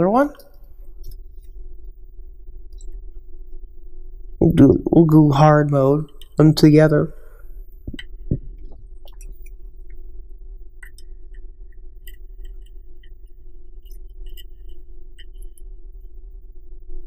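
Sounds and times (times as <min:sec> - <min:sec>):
low electrical hum: 0:00.0 - 0:17.0
solder crackling and sputtering: 0:00.0 - 0:17.0.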